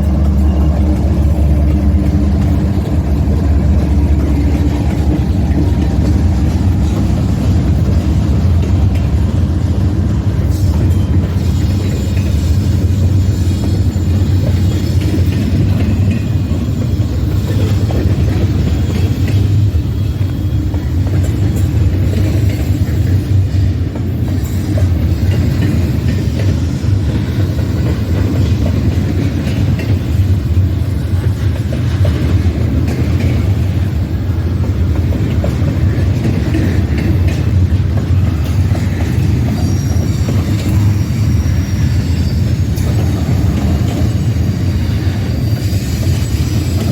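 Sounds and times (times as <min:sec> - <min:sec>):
freight train rumbling on rails: 0:00.0 - 0:46.9.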